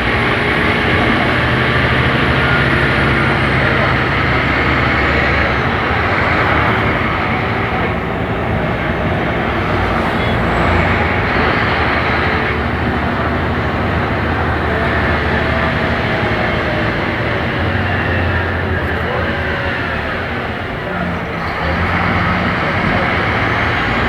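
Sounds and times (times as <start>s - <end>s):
bus diesel engine droning: 0.0s - 24.0s
road noise: 0.0s - 24.0s.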